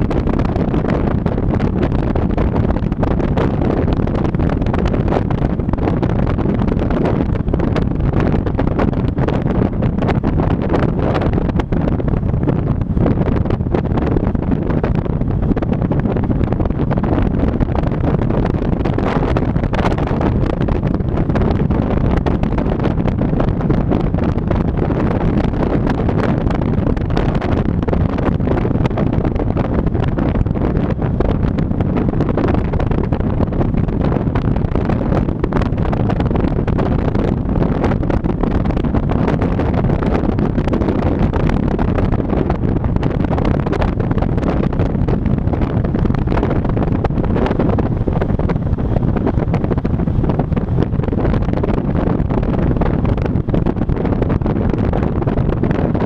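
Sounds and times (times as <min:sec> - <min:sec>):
car road noise: 0:00.0 - 0:56.0
wind buffeting microphone: 0:00.0 - 0:56.0.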